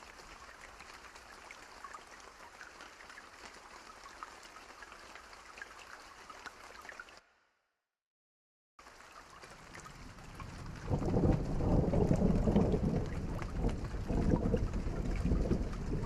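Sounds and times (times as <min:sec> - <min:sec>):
rain with falling drops: 0:00.0 - 0:07.3, 0:08.8 - 0:16.0.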